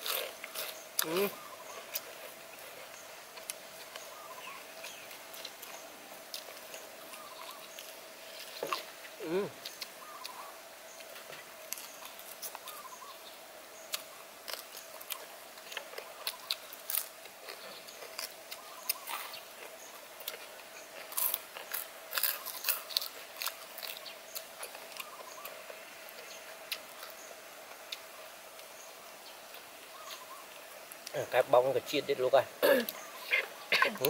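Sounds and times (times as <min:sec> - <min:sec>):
faint steady hum: 0:00.0 - 0:34.0
people chewing crunchy food: 0:00.0 - 0:34.0.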